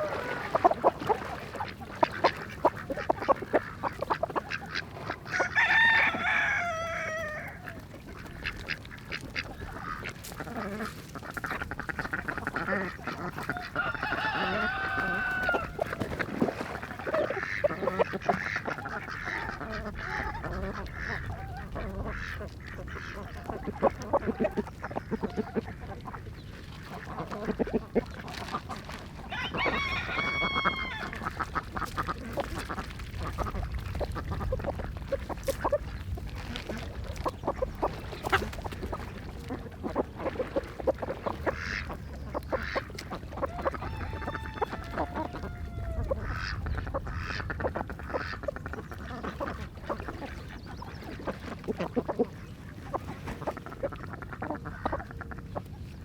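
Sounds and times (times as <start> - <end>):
ducks calling: 0.0 - 56.0.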